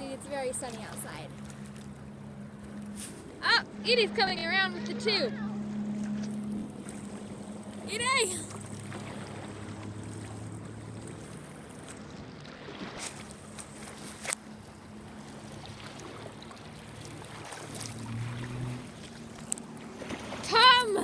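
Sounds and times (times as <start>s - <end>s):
motorboat engine humming: 0.0s - 21.0s.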